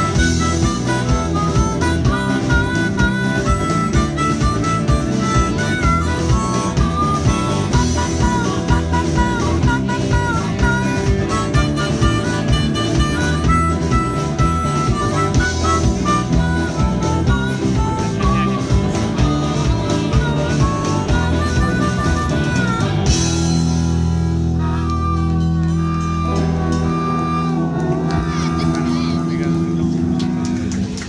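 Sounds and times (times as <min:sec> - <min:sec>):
blues band playing: 0:00.0 - 0:31.0.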